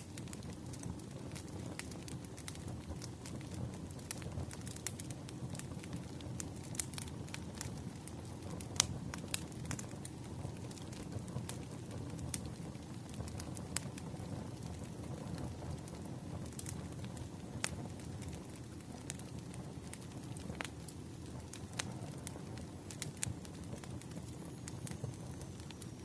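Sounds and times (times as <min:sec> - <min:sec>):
fire rumbling: 0:00.0 - 0:26.0.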